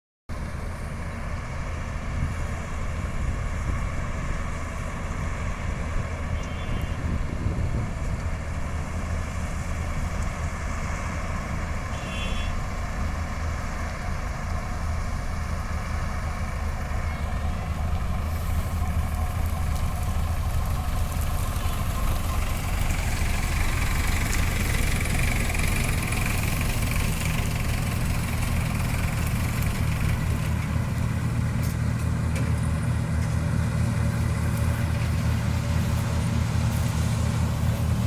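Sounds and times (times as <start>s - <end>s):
combine harvester running: 0.3s - 38.0s.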